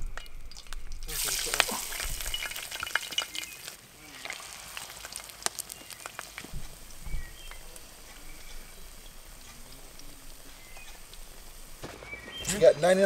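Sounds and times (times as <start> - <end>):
sharp pops and crackles: 0.0 - 12.8
food sizzling in skillet: 0.0 - 13.0.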